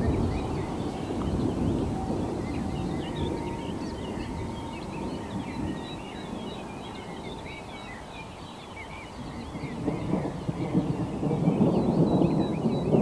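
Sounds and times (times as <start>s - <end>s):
thunder rolling: 0.0s - 8.2s, 9.1s - 13.0s
low wind rumble: 0.0s - 13.0s
small birds chirping: 0.0s - 13.0s.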